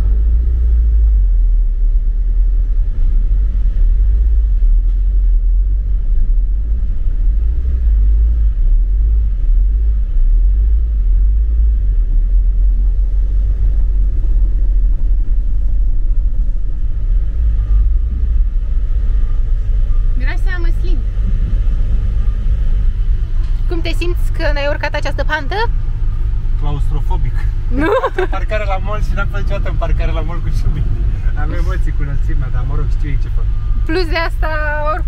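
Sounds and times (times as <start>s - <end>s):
van engine and tyres rumbling: 0.0s - 35.0s.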